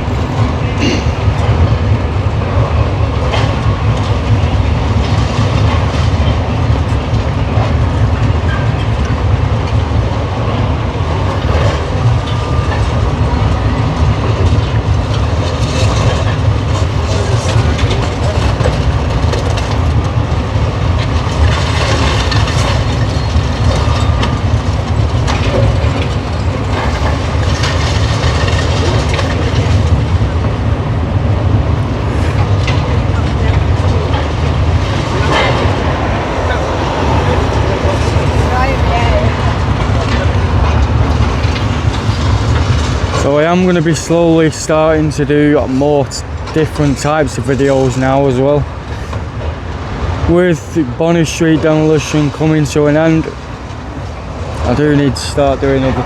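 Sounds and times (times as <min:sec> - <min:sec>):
excavator engine rumble: 0:00.0 - 0:56.0.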